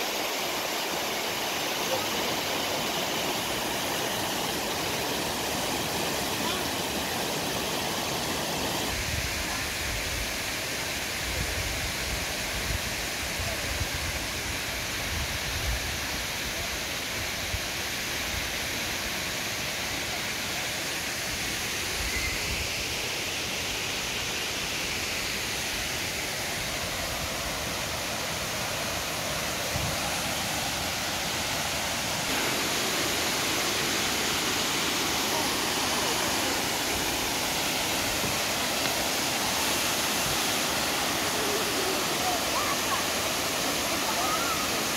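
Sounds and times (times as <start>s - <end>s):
waterfall roaring over rocks: 0.0s - 44.9s.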